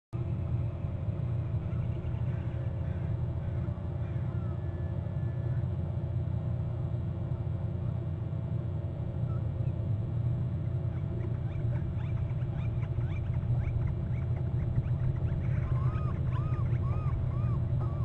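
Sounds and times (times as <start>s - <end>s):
steady low rumble: 0.1s - 18.0s.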